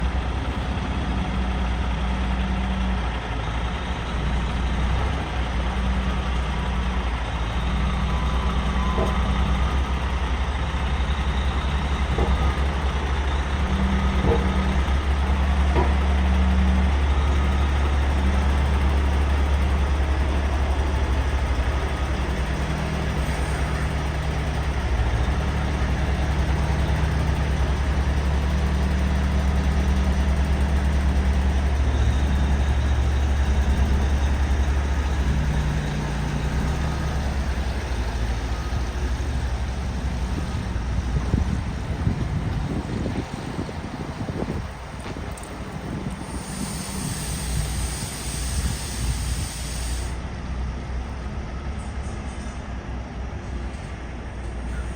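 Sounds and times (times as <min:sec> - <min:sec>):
truck diesel engine droning: 0:00.0 - 0:54.9.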